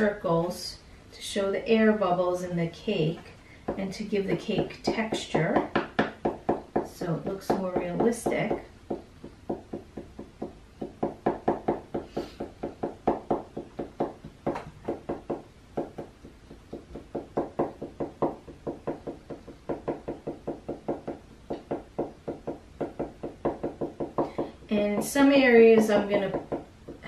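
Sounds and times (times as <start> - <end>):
marker tapping on paper: 3.7 - 27.0.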